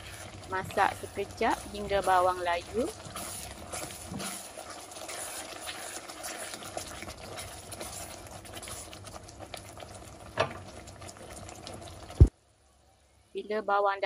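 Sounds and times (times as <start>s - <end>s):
spatula stirring: 0.0s - 12.2s
sauce bubbling and sizzling in a wok: 0.0s - 13.1s.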